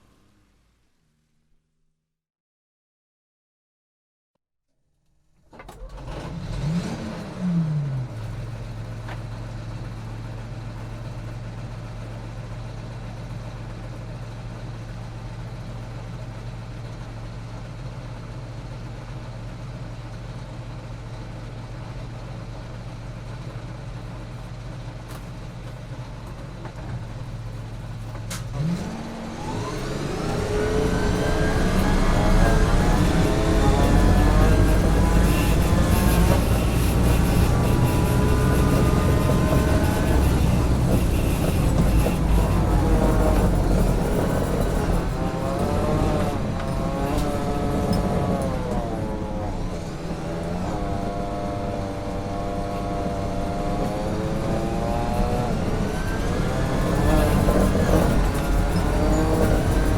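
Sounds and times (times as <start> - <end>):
vehicle engine starting and idling: 5.4 - 59.9.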